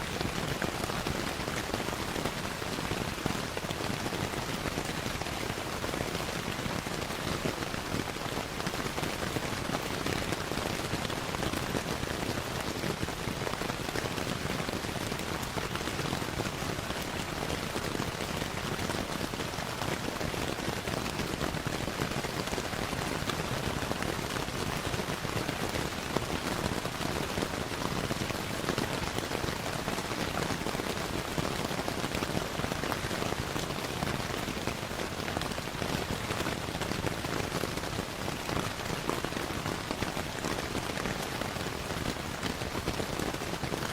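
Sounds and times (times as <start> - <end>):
steady rainfall: 0.0 - 43.9.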